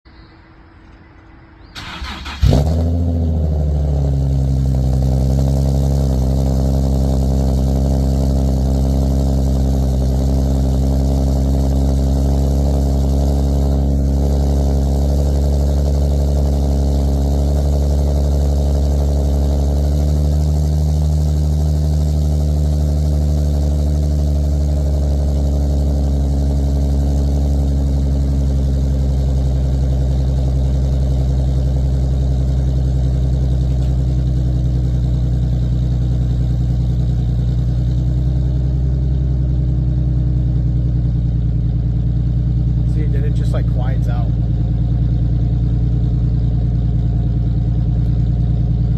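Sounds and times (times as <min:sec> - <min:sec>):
car engine starting and idling: 0:00.2 - 0:48.9.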